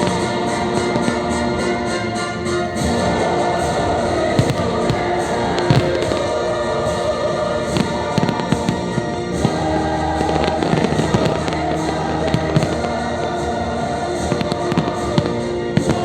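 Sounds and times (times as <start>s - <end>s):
fireworks bangs and crackles: 0.0s - 16.0s
orchestral and choral music: 0.0s - 16.0s.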